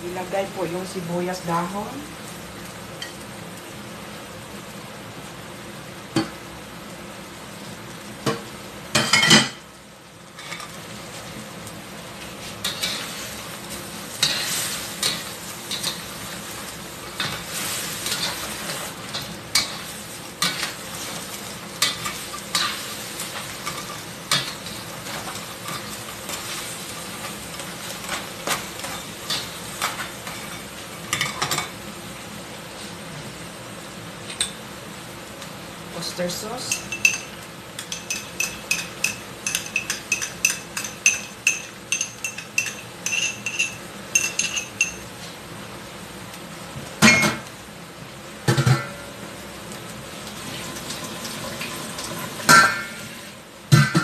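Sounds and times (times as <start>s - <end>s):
crabs sizzling in oil: 0.0s - 54.0s.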